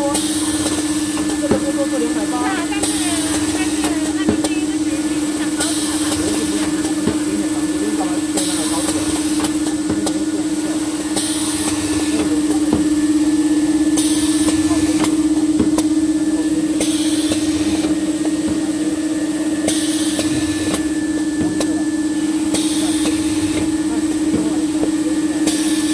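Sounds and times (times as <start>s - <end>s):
machine humming: 0.0s - 25.9s.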